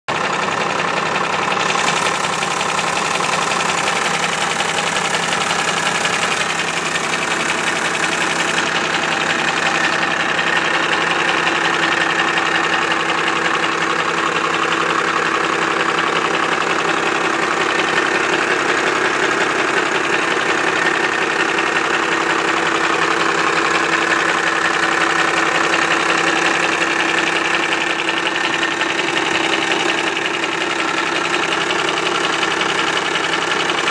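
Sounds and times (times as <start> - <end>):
diesel engine running with knock: 0.1 - 33.9.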